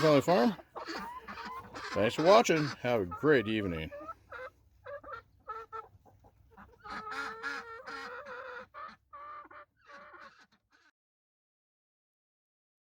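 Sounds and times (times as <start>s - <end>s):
hens calling: 0.0s - 10.9s.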